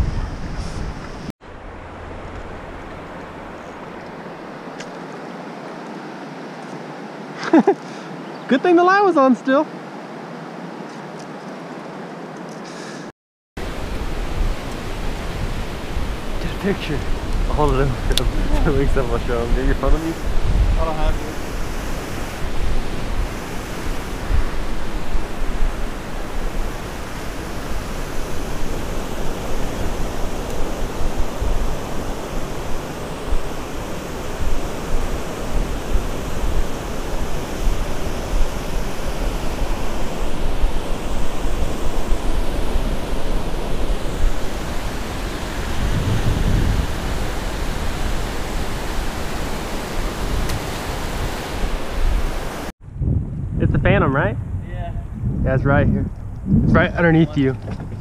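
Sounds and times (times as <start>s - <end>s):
wind buffeting microphone: 0.0s - 4.5s, 13.6s - 58.0s
rush of wind and open water: 0.0s - 58.0s.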